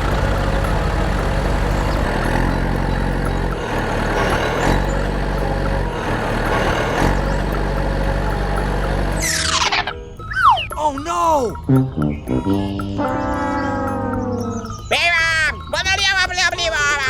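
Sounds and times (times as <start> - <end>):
engine running under load: 0.0 - 10.7, 11.6 - 14.9.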